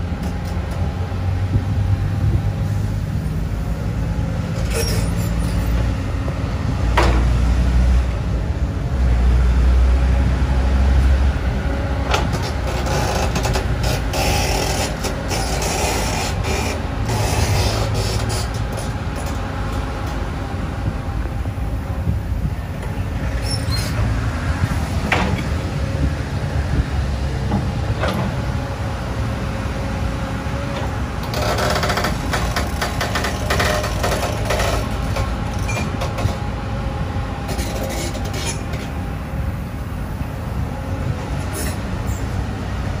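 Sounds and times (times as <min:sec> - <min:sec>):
excavator engine rumble: 0:00.0 - 0:43.0.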